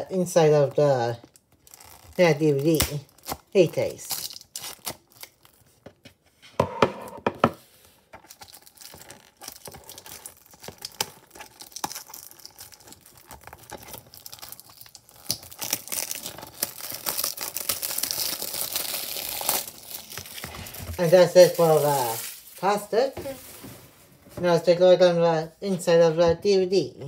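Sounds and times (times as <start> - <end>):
plastic wrap crinkling: 0.8 - 6.2, 7.9 - 24.4.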